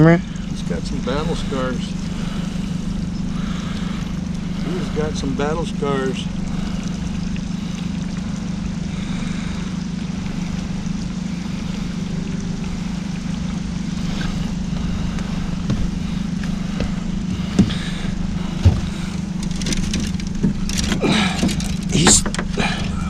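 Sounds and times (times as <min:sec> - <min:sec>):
low rumble: 0:00.0 - 0:23.0
motor hum: 0:00.0 - 0:23.0.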